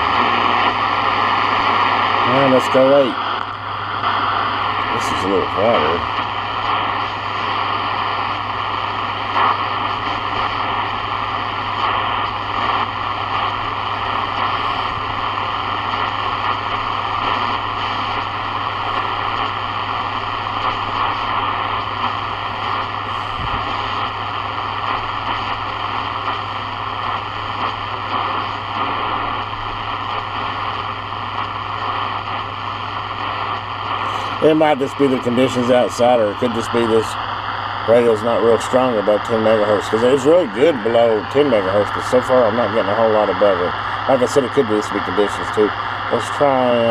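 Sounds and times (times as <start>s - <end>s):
radio static hiss: 0.0s - 46.9s
faint crackles: 0.1s - 46.9s.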